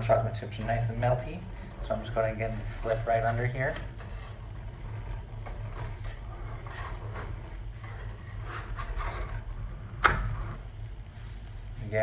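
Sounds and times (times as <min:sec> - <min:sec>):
steady low hum: 0:00.0 - 0:12.0
spatula scraping a frying pan: 0:00.7 - 0:11.5.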